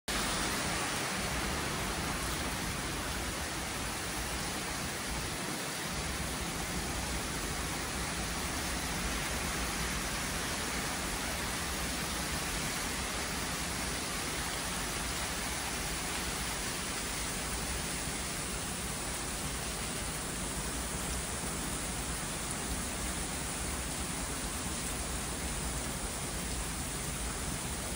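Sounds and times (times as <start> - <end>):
heavy rain pouring through trees: 0.1 - 27.9.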